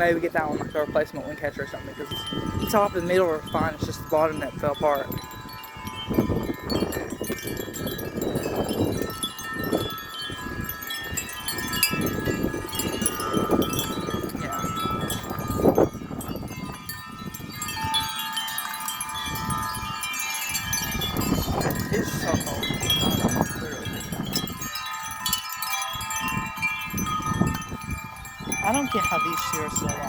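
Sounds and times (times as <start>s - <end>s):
wind buffeting microphone: 0.0s - 30.0s
wind chimes ringing: 0.0s - 30.0s.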